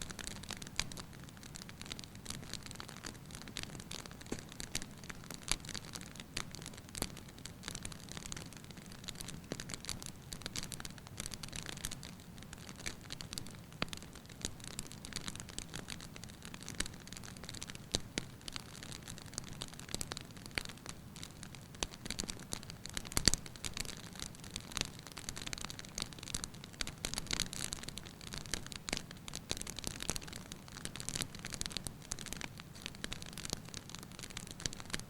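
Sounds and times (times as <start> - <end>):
firewood crackling and popping: 0.0 - 35.0.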